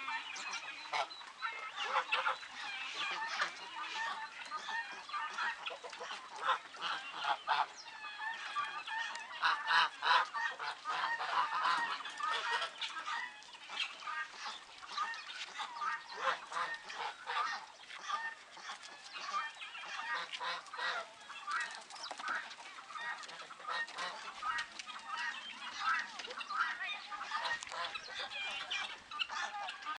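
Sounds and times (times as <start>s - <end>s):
poultry calling: 0.0s - 30.0s.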